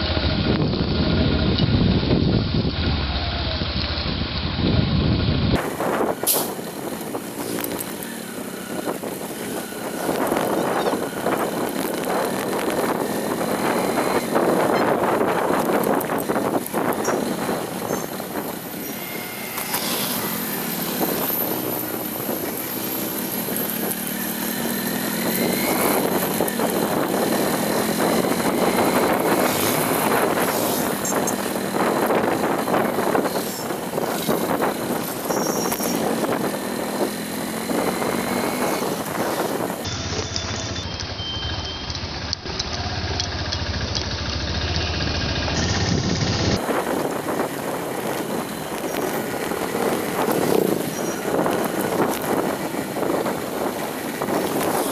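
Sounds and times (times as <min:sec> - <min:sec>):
road and tyre rumble: 0:00.0 - 0:54.9
vehicle engine running: 0:00.0 - 0:54.9.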